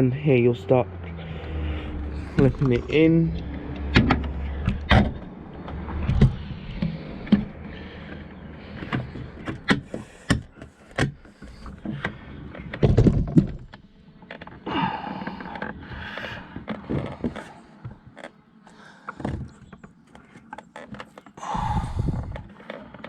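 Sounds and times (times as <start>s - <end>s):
plastic scraping: 1.2s - 23.0s.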